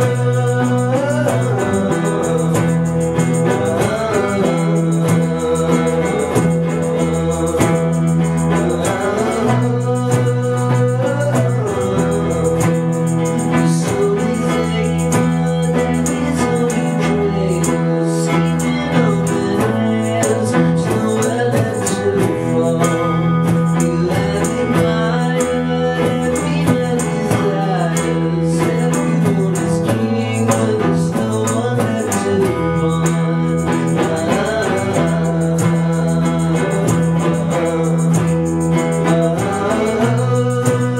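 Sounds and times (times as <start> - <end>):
person singing: 0.0 - 40.9
rock band playing live: 0.0 - 40.9.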